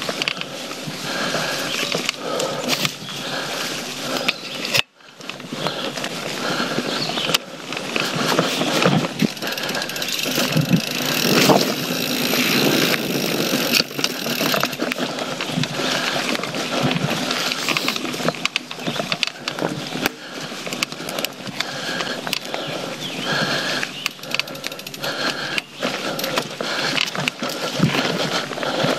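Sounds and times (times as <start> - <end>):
bike rattling and clicking: 0.0 - 28.9
bike tyres rolling over dirt: 0.0 - 28.9.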